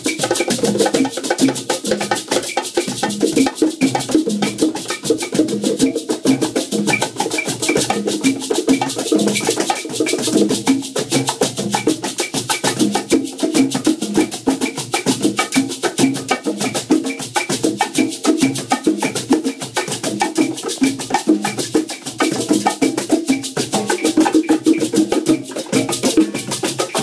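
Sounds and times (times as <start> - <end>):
cajon: 0.0 - 27.0
conga drumming: 0.0 - 27.0.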